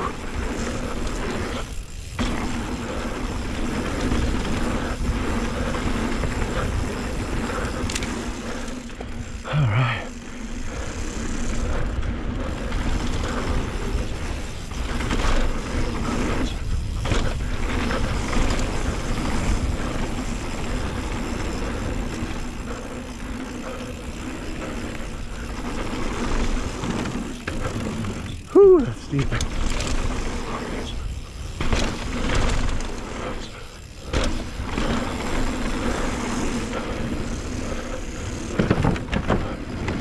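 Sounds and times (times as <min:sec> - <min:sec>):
mountain bike rattling over rough trail: 0:00.0 - 0:40.0.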